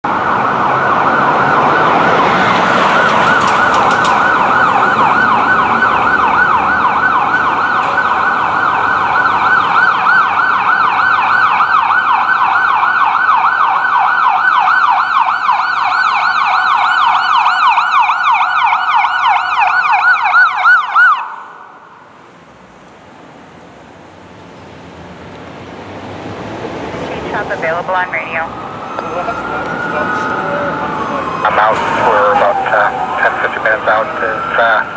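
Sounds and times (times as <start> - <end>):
traffic rumble: 0.0 - 34.9
siren yelping: 0.1 - 22.0, 27.0 - 34.9.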